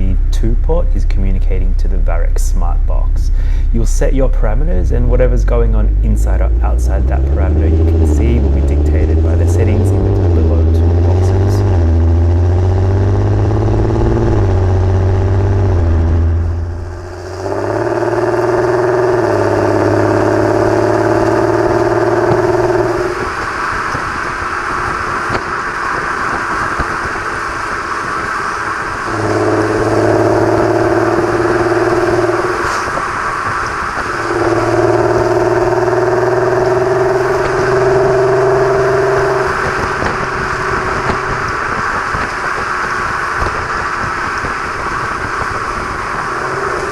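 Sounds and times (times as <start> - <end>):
car engine and exhaust: 0.0 - 46.9
road noise: 0.0 - 46.9.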